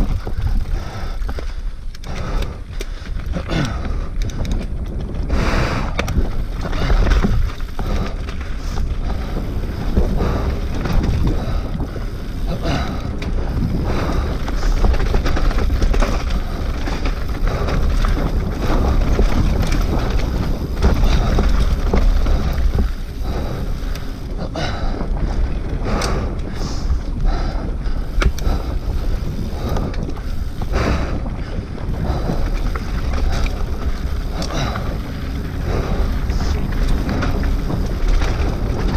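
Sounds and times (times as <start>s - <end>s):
bike knocking over rocks: 0.0s - 38.9s
mountain bike rattling: 0.0s - 38.9s
tyres crunching on loose stones: 0.0s - 38.9s
wind buffeting microphone: 0.0s - 38.9s.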